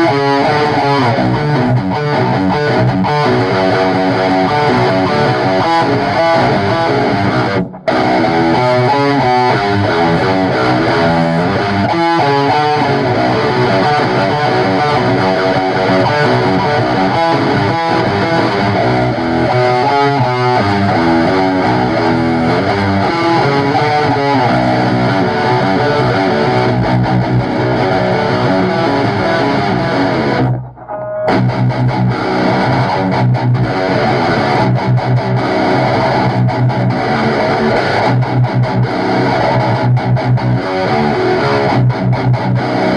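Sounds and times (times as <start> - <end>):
distorted electric guitar riff: 0.0 - 42.9.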